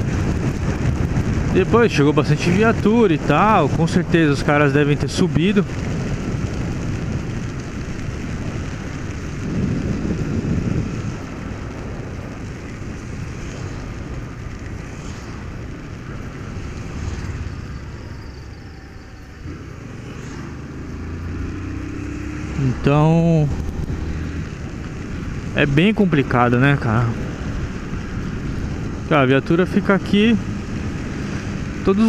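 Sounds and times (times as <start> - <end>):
motorcycle engine running: 0.0 - 32.0
wind rumble on microphone: 0.0 - 32.0.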